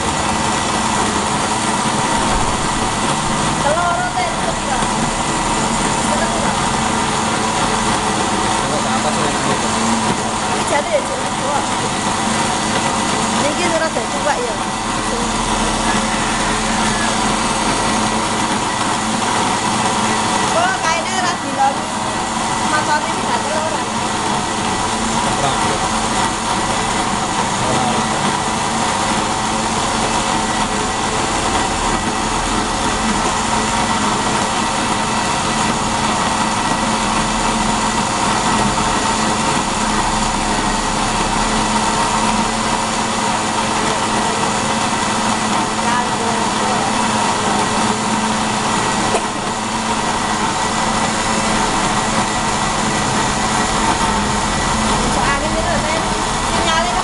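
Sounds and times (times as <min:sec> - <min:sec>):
food grinder motor humming: 0:00.0 - 0:57.0.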